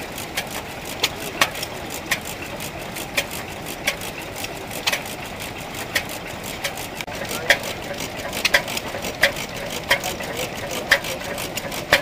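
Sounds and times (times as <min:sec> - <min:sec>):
mechanical clatter: 0:00.0 - 0:12.0
stationary engine running slowly: 0:00.0 - 0:12.0.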